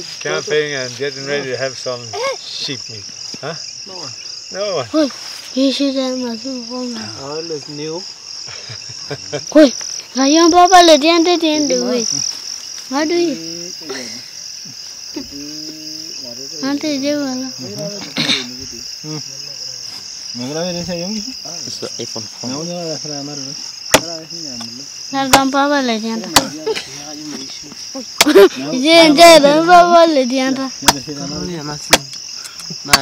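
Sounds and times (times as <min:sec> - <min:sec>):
crickets chirring: 0:00.0 - 0:33.0
people's voices: 0:00.0 - 0:33.0.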